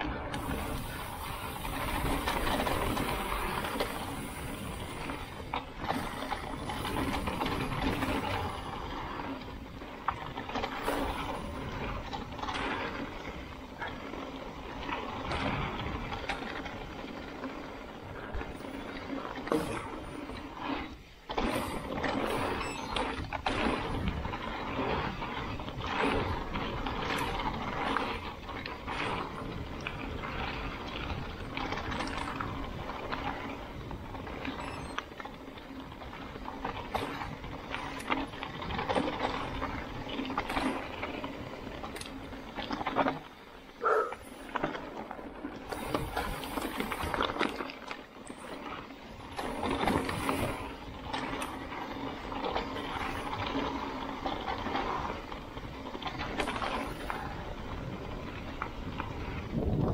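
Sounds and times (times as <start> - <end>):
bike frame and chain rattling: 0.0 - 59.9
tyres crunching over rocks: 0.0 - 59.9.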